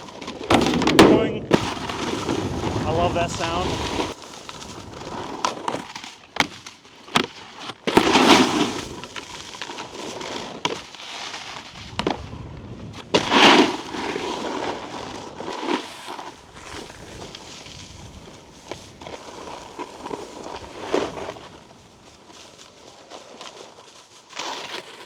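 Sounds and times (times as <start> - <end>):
snowboard clacks: 0.0 - 25.0
snowboard scraping icy snow: 0.0 - 25.0.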